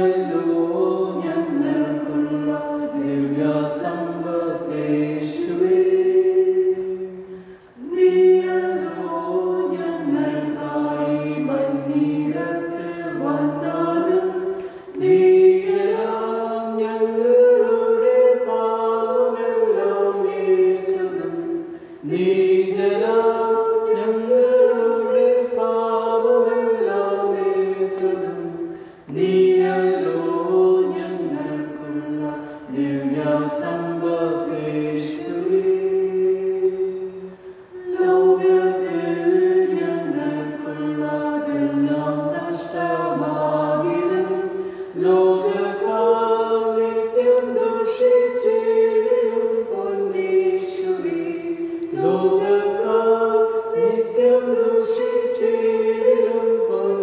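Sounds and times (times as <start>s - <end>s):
voices singing a hymn: 0.0s - 57.0s.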